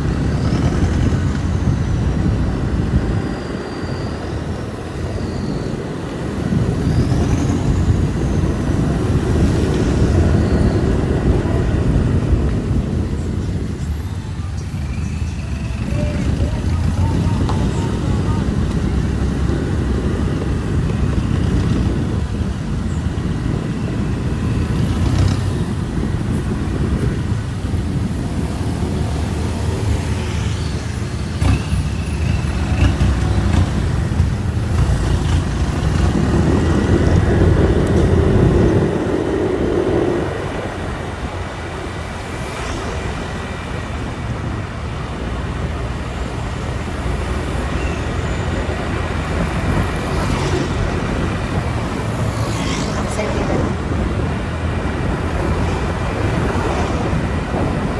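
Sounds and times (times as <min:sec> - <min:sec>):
motorbike and road rumble: 0:00.0 - 0:57.9.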